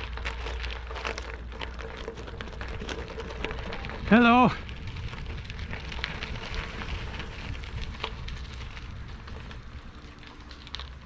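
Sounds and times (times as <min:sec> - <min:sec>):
bicycle tyres rolling on trail: 0:00.0 - 0:11.0
wind rumble on microphone: 0:00.0 - 0:11.0.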